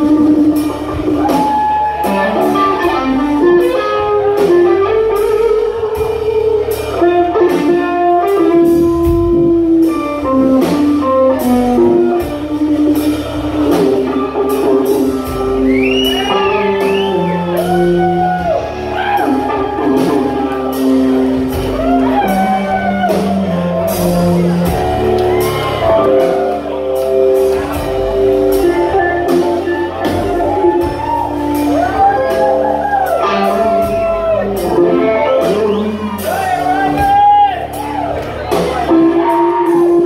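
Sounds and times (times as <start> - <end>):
bass guitar: 0.0 - 40.0
drum kit: 0.0 - 40.0
electric guitar lead line: 0.0 - 40.0.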